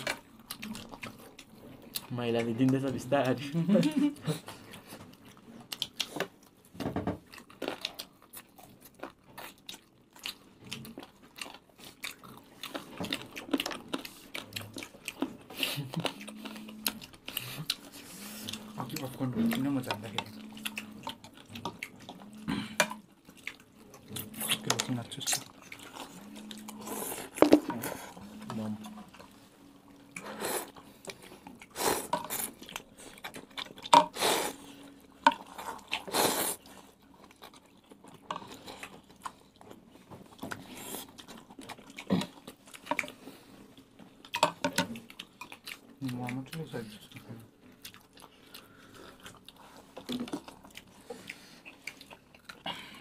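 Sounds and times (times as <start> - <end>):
chewing: 0.0 - 53.0.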